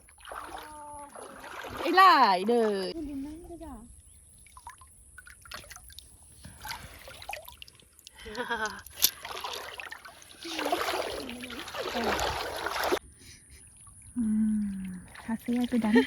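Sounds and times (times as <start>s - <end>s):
river water splashing: 0.0s - 3.0s, 4.4s - 13.0s, 14.6s - 16.0s.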